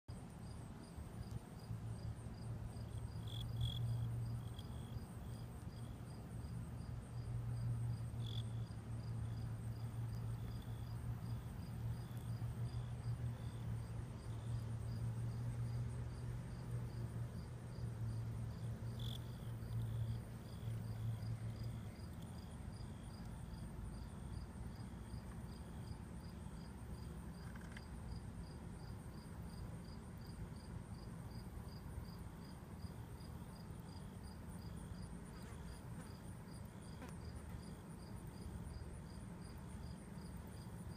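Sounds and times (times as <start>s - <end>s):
crickets chirping: 0.1s - 40.9s.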